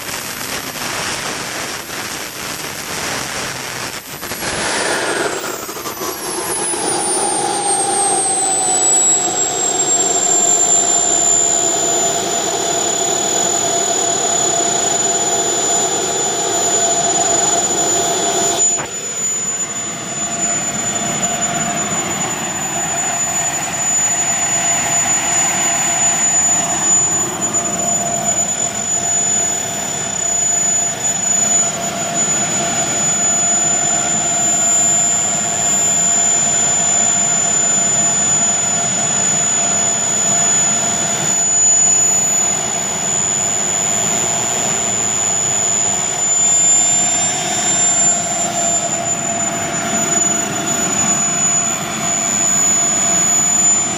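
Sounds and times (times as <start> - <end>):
model jet turbines whining: 0.0 - 53.9.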